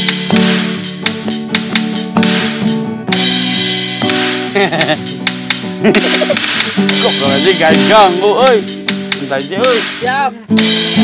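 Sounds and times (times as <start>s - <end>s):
acoustic guitar strumming: 0.0s - 11.0s
sharp percussive hits: 0.0s - 11.0s.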